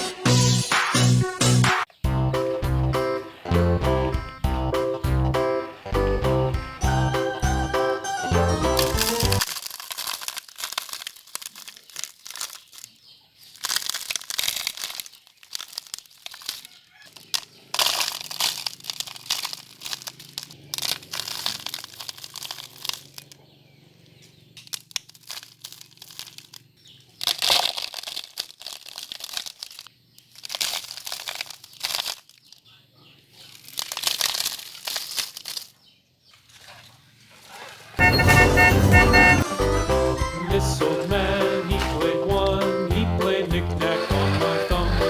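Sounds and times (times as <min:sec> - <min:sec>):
sand and stones crunching: 0:01.8 - 0:36.4, 0:37.0 - 0:45.0.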